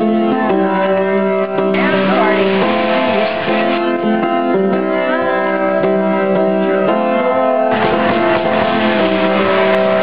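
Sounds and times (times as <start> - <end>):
fuller noisier music layer: 0.0 - 10.0
piano playing: 0.0 - 10.0.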